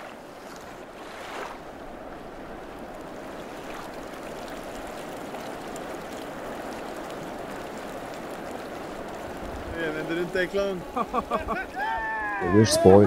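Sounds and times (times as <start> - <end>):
river water over stones: 0.0 - 13.0.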